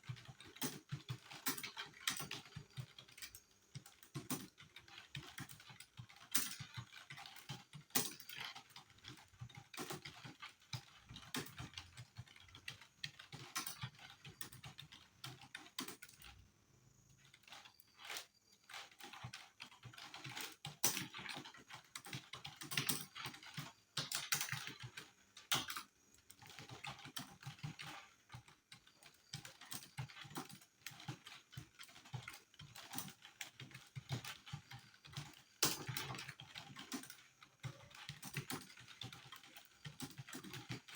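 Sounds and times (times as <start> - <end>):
rapid typing on keyboard: 0.0 - 16.5, 17.2 - 40.9.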